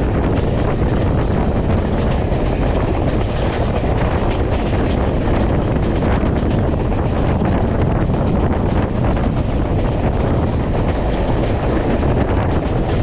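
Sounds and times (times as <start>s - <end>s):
moving train rumble: 0.0s - 13.0s
wind rushing over microphone: 0.0s - 13.0s.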